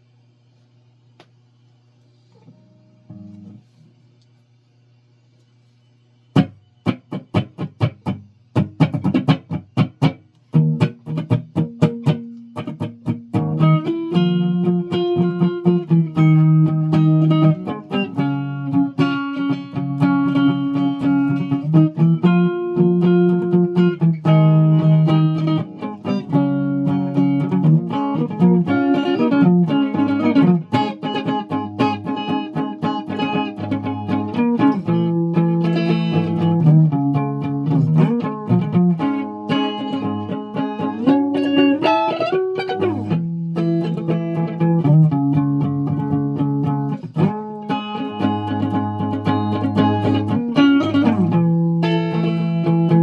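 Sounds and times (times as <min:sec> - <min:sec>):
guitar playing notes and chords: 0:06.3 - 0:53.0.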